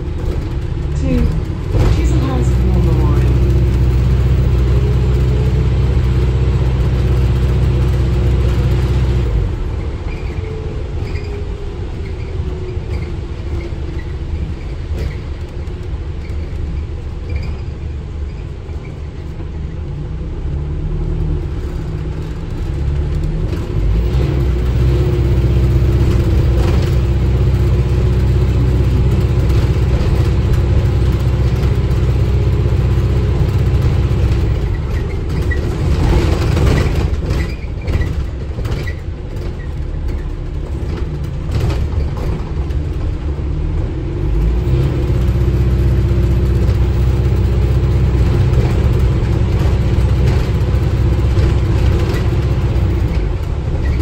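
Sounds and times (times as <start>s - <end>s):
bus drivetrain low drone: 0.0s - 54.0s.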